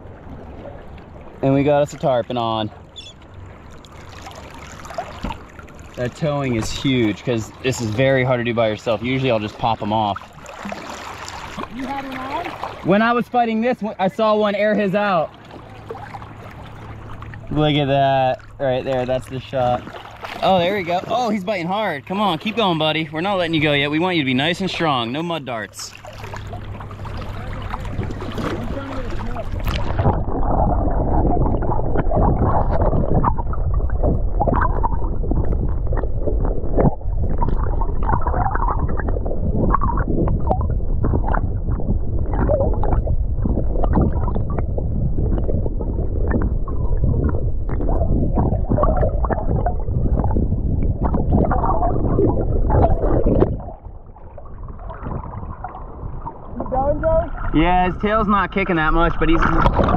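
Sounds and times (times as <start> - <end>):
muffled underwater water gurgling: 0.0 - 59.9.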